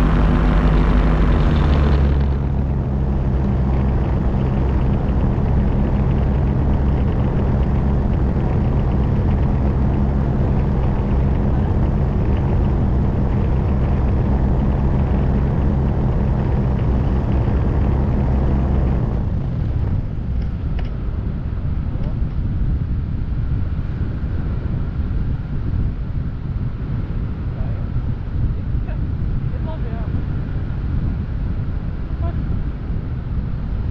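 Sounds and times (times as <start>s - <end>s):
engine humming: 0.0s - 33.9s.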